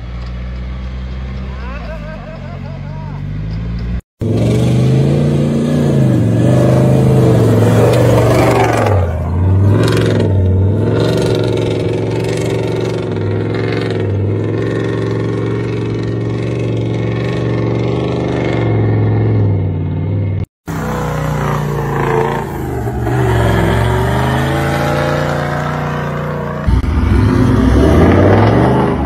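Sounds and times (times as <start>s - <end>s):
engine revving hard: 4.2s - 19.3s, 20.7s - 29.0s.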